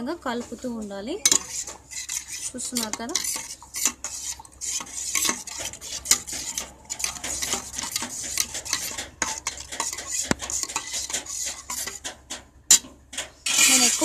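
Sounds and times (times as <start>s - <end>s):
metal spoon stirring in steel bowl: 0.3s - 12.1s, 13.4s - 14.0s.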